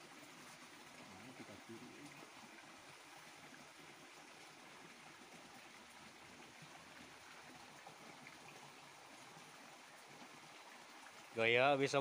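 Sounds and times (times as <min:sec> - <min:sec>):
water flowing in a ditch: 0:00.0 - 0:12.0.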